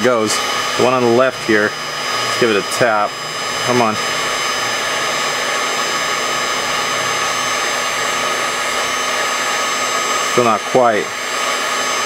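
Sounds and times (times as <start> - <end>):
heat gun blowing with whine: 0.0 - 12.0.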